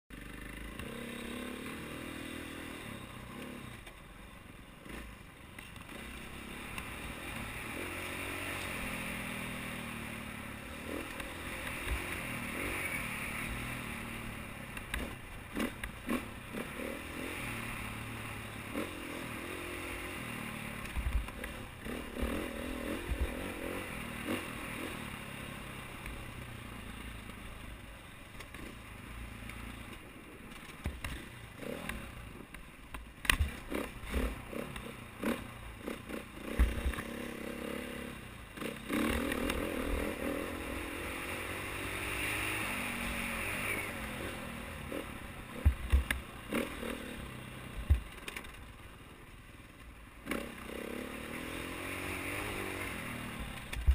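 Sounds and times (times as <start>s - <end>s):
dirt bike engine revving: 0.1s - 3.8s, 5.8s - 27.1s, 31.0s - 32.2s, 33.2s - 48.0s, 50.2s - 53.9s.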